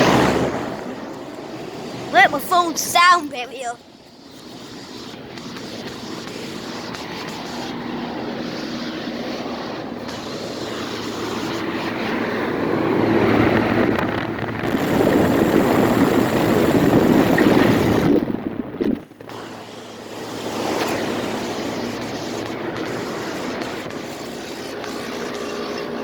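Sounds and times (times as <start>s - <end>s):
large fan rushing air: 0.0s - 26.0s.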